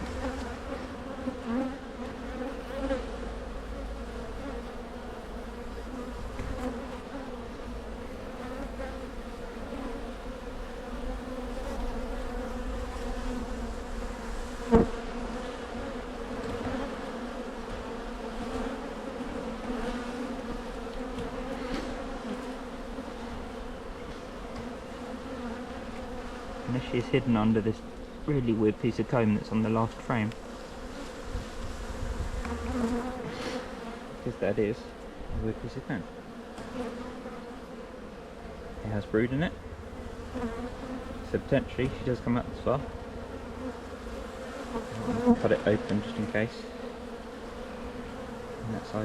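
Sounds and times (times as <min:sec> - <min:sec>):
honey bees buzzing: 0:00.0 - 0:49.0.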